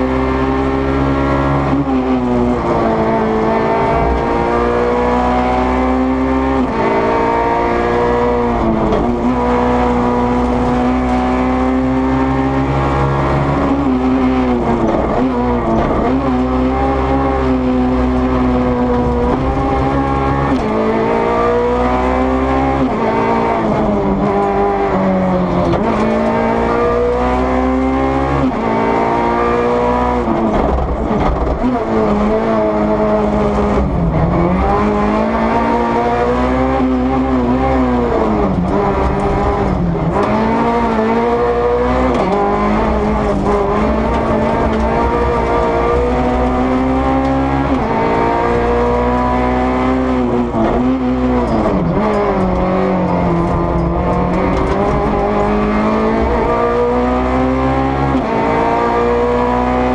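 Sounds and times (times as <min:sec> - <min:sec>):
rally car engine revving hard: 0:00.0 - 0:59.9.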